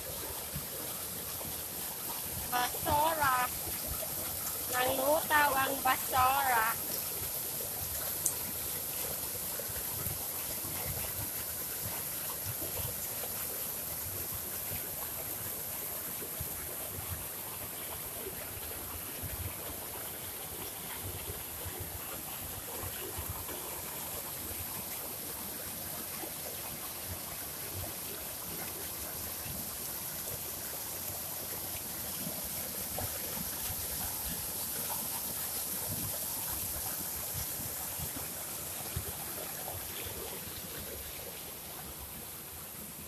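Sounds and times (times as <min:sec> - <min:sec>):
rushing floodwater: 0:00.0 - 0:43.0.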